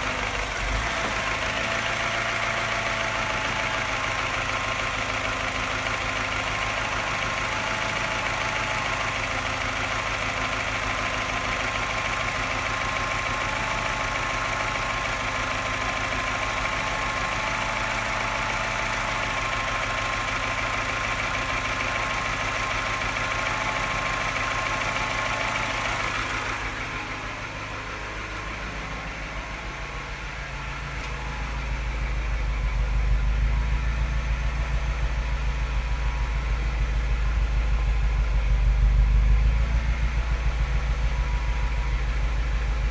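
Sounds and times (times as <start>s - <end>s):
engine running with tapping: 0.0s - 42.9s.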